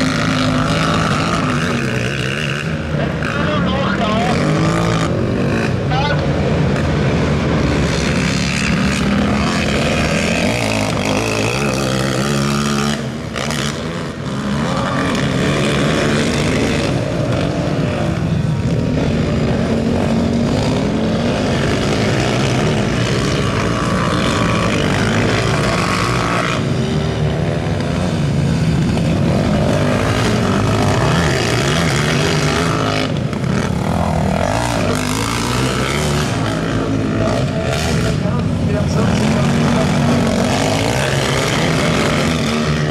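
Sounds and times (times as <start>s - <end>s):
racing quad engines: 0.0s - 42.9s.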